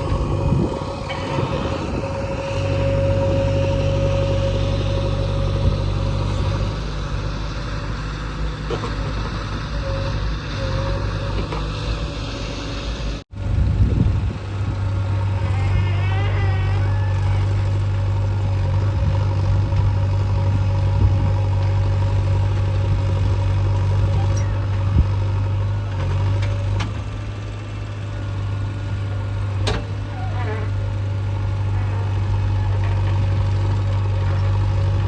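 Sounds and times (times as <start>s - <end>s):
heavy diesel engine humming: 0.0s - 35.0s.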